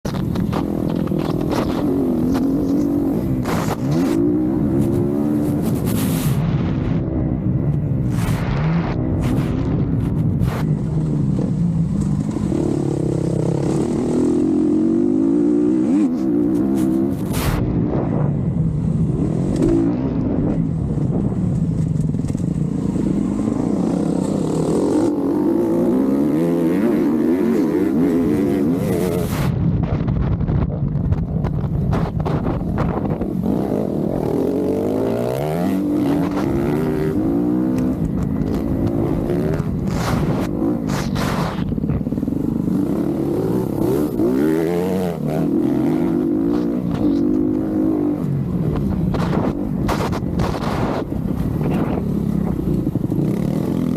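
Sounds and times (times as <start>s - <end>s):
motocross bike engines revving: 0.1s - 29.6s, 31.8s - 53.9s.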